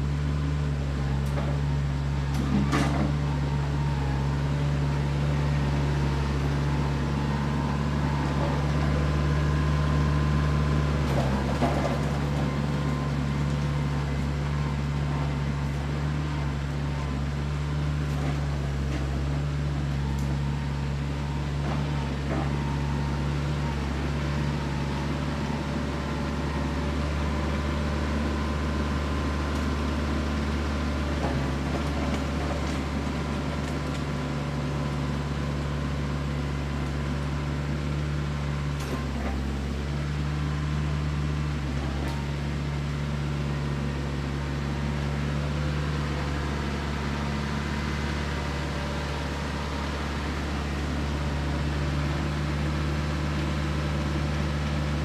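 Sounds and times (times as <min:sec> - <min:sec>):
tractor engine running under load: 0:00.0 - 0:55.0.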